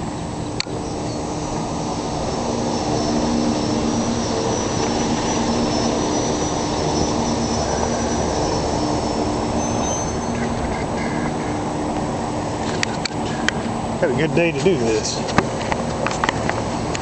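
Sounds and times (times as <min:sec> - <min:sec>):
crane engine droning: 0:00.0 - 0:17.0
faint high whine: 0:00.0 - 0:17.0.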